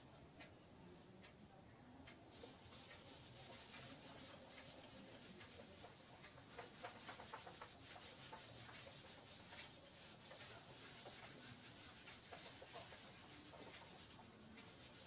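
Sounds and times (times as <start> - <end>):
cloth wiping whiteboard: 2.3 - 15.0.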